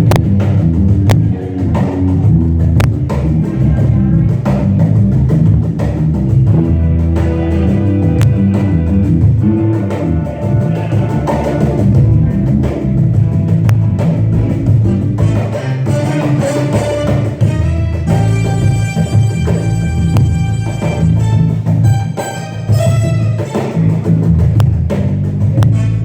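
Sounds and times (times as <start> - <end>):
live band with guitar and drums: 0.0 - 26.0.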